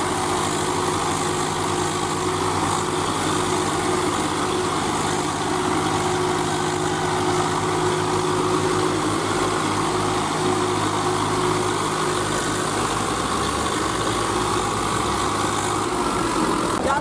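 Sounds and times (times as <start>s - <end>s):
tractor diesel engines under load: 0.0s - 17.0s.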